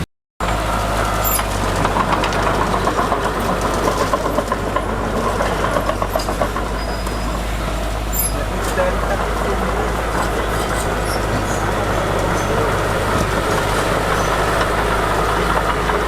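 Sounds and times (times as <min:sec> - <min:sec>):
diesel earthmoving machine running: 0:00.0 - 0:16.0
metal clanking and rattling: 0:01.2 - 0:16.0.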